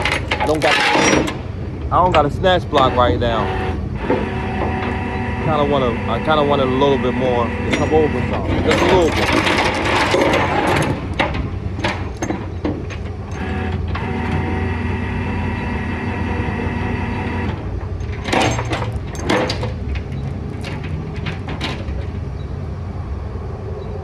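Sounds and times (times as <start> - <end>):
metal clanks and knocks: 0.0 - 22.4
truck engine running: 0.0 - 24.0
winch whining: 0.0 - 24.0.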